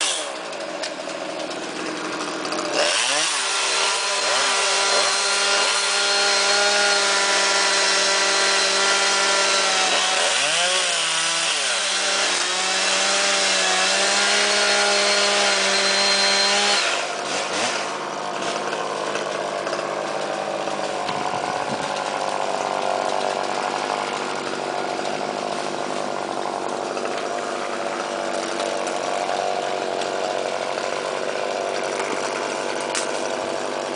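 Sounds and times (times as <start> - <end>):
chainsaw cutting: 0.0 - 33.9.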